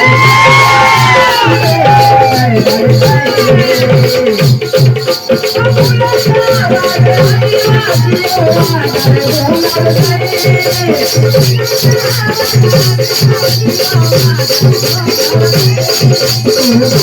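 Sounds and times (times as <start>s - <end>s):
fast drum beat: 0.0s - 17.0s
held melody line: 0.0s - 17.0s
shaker rattle: 1.7s - 17.0s.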